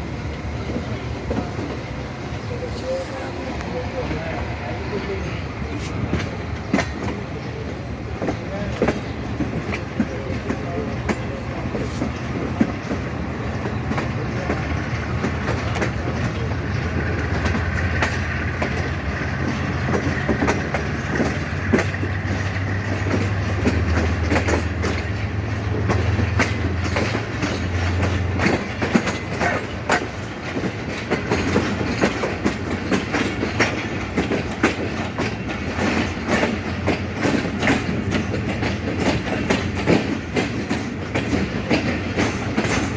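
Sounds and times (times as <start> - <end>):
train low rumble: 0.0 - 42.9
train wheels clacking over joints: 0.0 - 42.9.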